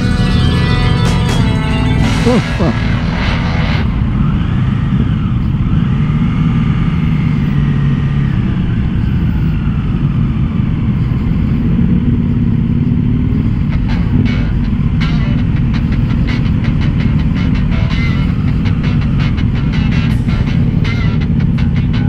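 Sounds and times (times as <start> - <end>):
motorcycle engine rumble: 0.0 - 22.0
motorcycle engine whines: 0.0 - 22.0.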